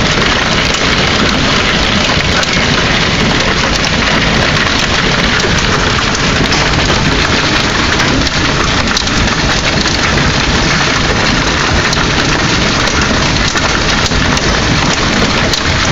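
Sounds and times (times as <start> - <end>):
hail and rain pattering: 0.0 - 15.9.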